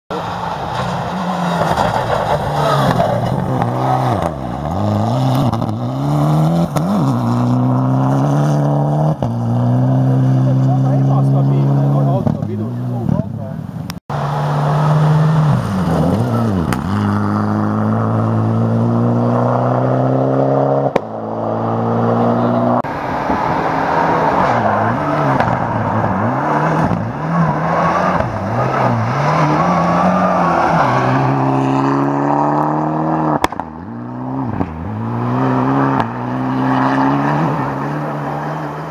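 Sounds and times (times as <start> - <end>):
rally car engine at full throttle: 0.1 - 38.9.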